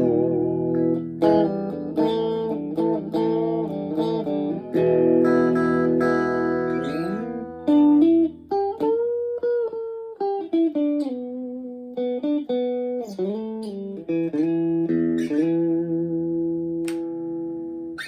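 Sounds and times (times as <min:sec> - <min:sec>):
clean electric guitar lead line: 0:00.0 - 0:18.0.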